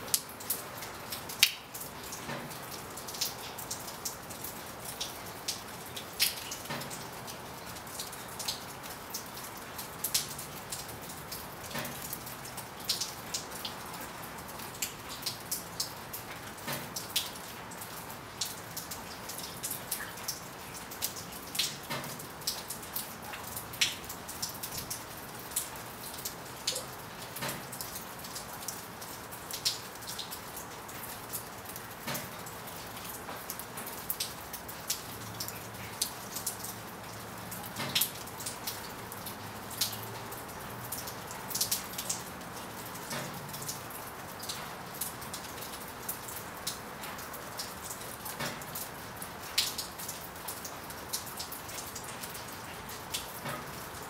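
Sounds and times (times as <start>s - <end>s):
raindrops ticking: 0.0s - 54.0s
steady rain hiss: 0.0s - 54.0s.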